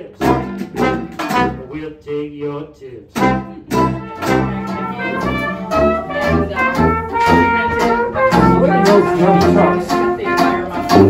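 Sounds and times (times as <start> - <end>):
jazz band playing: 0.0 - 1.8, 3.1 - 11.0
strummed guitar and banjo: 0.0 - 1.8, 3.1 - 11.0
brass horn lines: 0.2 - 1.7, 3.2 - 11.0
sousaphone bass line: 0.2 - 1.7, 3.2 - 11.0.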